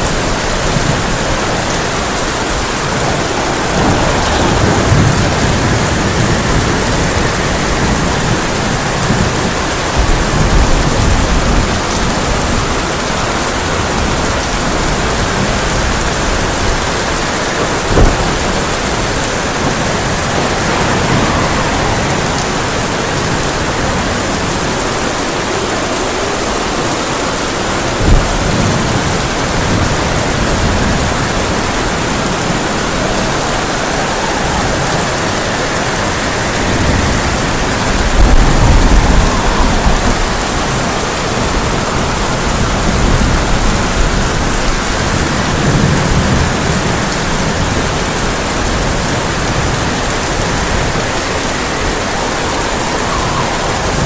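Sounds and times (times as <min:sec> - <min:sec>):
heavy rain on tin roof: 0:00.0 - 0:54.0
low rumbling thunder: 0:00.0 - 0:54.0.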